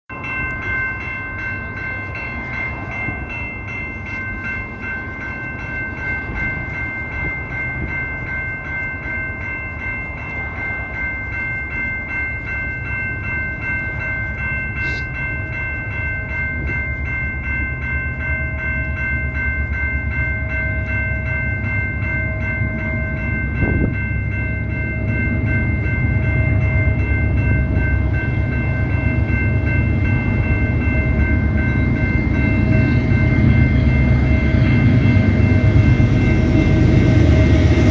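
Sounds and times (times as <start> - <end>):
train rumble: 0.1 - 37.9.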